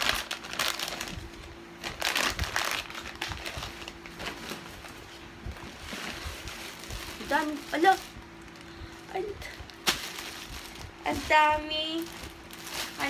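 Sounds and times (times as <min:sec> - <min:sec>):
plastic packaging crinkling: 0:00.0 - 0:05.0, 0:05.6 - 0:13.0.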